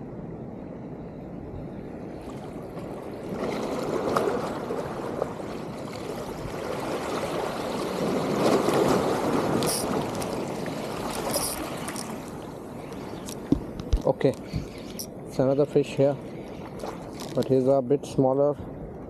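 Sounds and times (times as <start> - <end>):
rough sea against rocks: 0.0 - 19.0.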